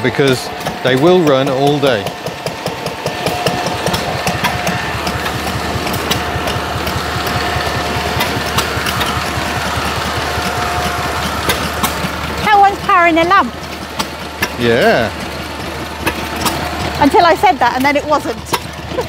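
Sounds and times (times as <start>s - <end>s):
stationary engines running: 0.0s - 19.0s.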